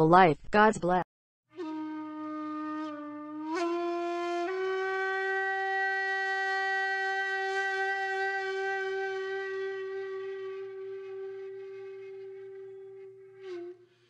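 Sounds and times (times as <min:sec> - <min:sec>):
wind instrument slow notes: 0:01.5 - 0:14.0.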